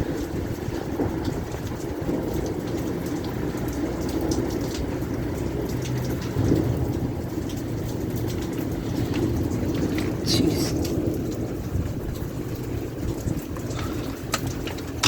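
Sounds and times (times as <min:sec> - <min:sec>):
heavy rain pouring: 0:00.0 - 0:15.0
thunder rumble: 0:00.0 - 0:15.0
wind: 0:00.0 - 0:15.0.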